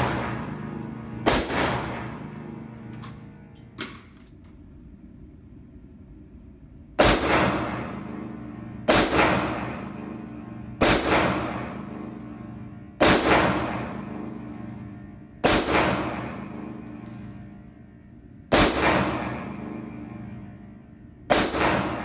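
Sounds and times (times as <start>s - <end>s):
rifle shots echoing indoors: 0.0s - 4.0s, 6.9s - 22.0s.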